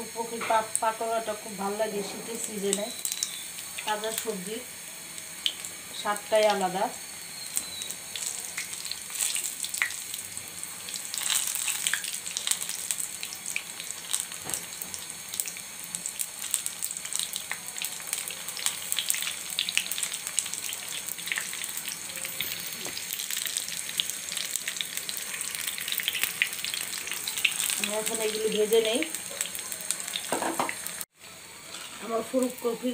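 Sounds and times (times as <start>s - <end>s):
food deep-frying in hot oil: 0.0s - 32.9s.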